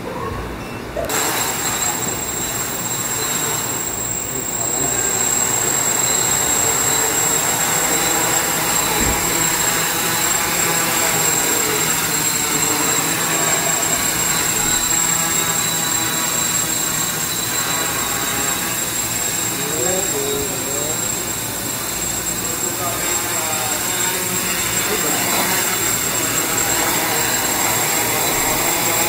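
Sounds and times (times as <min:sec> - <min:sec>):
quadcopter motors whirring: 0:00.9 - 0:29.0.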